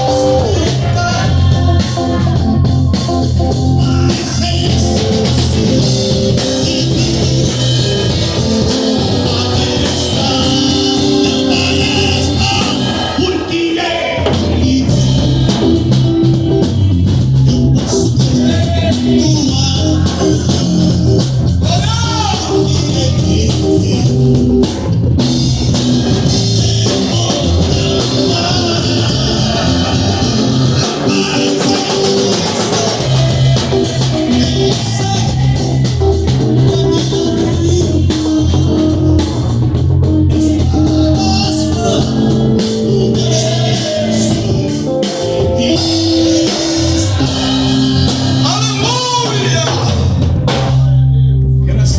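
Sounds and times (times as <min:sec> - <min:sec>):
bass: 0:00.0 - 0:51.9
drum kit: 0:00.0 - 0:51.9
guitar: 0:00.0 - 0:51.9
person singing: 0:00.0 - 0:51.9.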